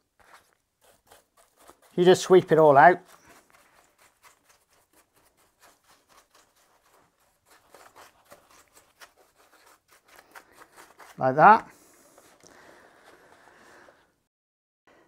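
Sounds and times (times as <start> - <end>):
brush bristles scratching plastic: 0.0 - 13.5.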